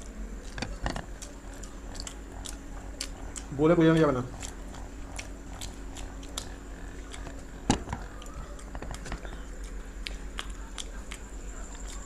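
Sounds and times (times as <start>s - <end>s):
chewing and biting food: 0.0s - 12.0s.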